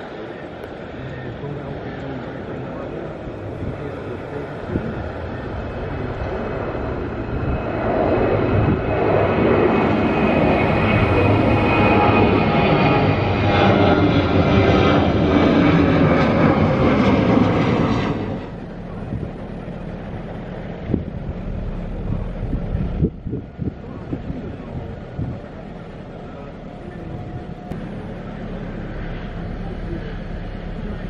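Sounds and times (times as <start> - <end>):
jet engines roaring overhead: 0.0 - 31.0.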